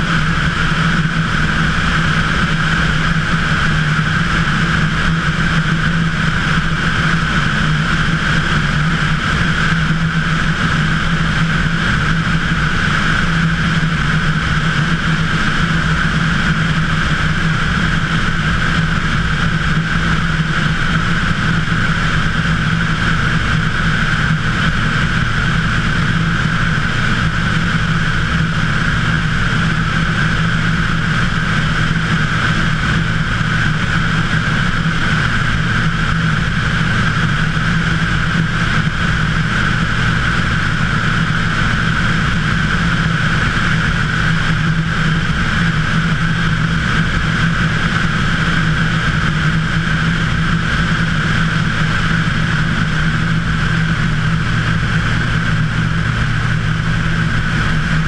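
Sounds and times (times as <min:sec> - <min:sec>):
airplane engine and propeller droning: 0:00.0 - 0:58.0
wind rushing over microphone: 0:00.0 - 0:58.0.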